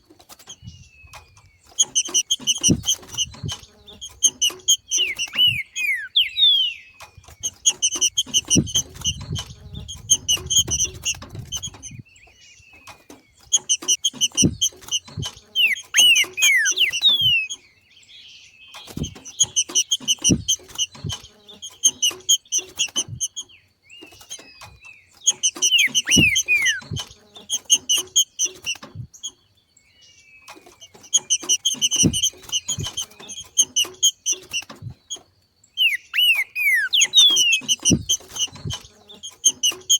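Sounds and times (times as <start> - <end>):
bird chattering and whistling: 0.5 - 17.6, 18.7 - 29.3, 30.6 - 39.9.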